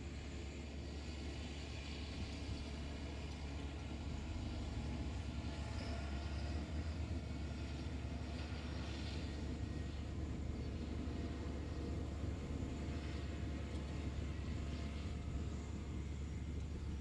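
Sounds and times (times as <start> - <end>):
deep farm machinery running: 0.0 - 17.0.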